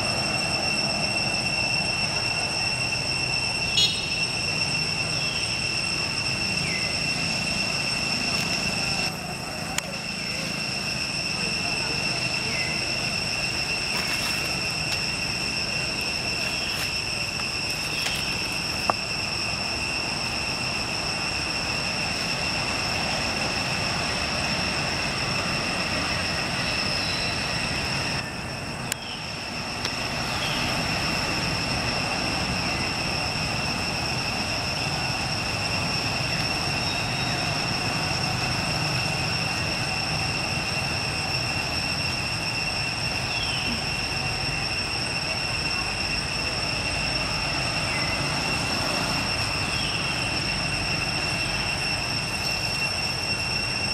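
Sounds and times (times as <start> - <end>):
high-pitched whine: 0.0 - 53.9.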